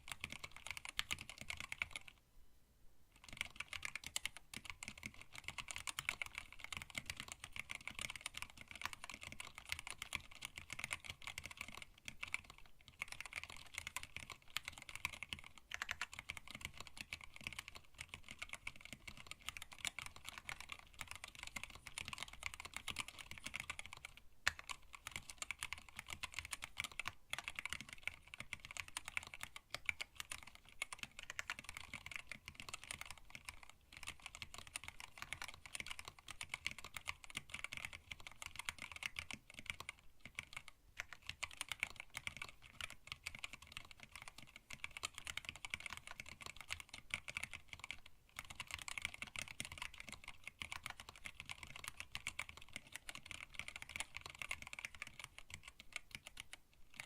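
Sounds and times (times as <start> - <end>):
fast typing on mechanical keyboard: 0.0 - 2.2, 3.2 - 57.0.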